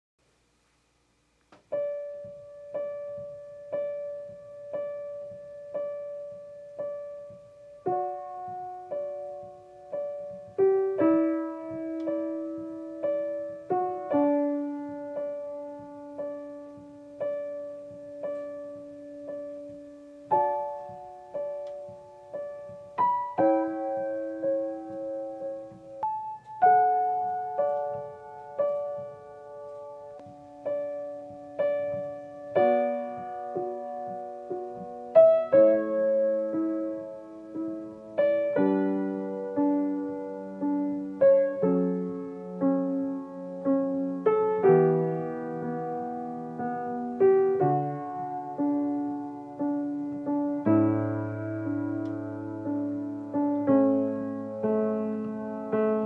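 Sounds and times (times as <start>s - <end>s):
soft solo piano: 1.5s - 56.0s.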